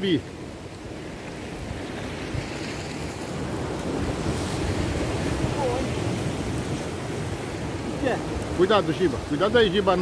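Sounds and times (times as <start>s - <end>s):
surf breaking over rocks: 0.0s - 10.0s
wind buffeting microphone: 0.0s - 10.0s.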